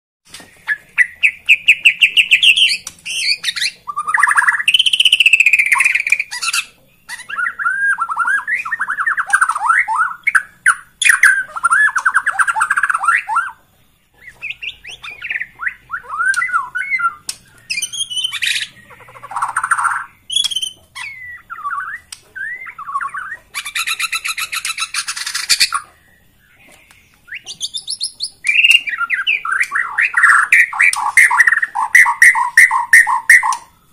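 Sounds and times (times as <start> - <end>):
bird song with trills and whistles: 0.3 - 33.9.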